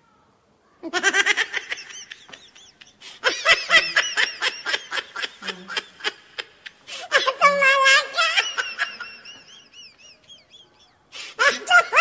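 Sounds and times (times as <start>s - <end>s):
young man laughing: 0.9s - 12.0s.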